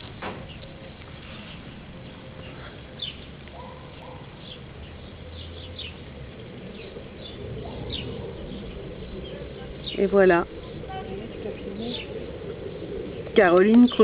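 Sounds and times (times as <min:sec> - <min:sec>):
small birds chirping: 0:00.0 - 0:14.0
steady low background noise: 0:00.0 - 0:14.0.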